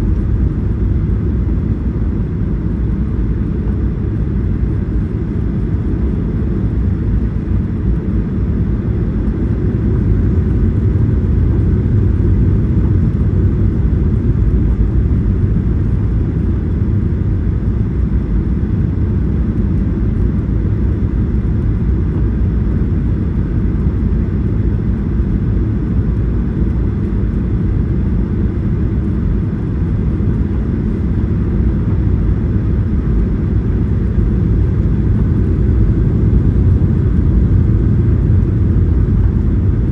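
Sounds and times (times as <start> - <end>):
airliner engine rumble: 0.0 - 39.9.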